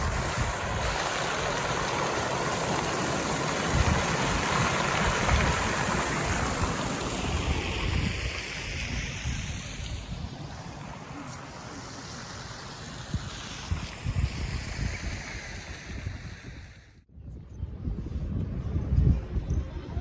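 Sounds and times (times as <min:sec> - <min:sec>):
wind buffeting microphone: 0:00.0 - 0:11.6, 0:13.0 - 0:20.0
steady rushing outdoor noise: 0:00.0 - 0:20.0.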